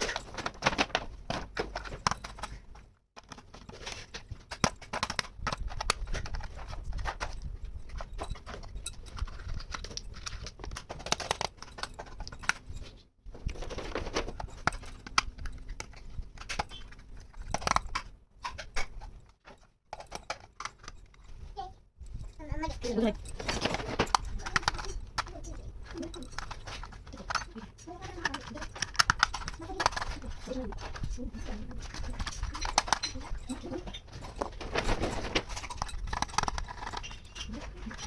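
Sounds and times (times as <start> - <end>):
plastic toy pieces clicking: 0.0 - 12.8, 13.4 - 21.2, 22.1 - 38.0
rustling: 0.0 - 38.0.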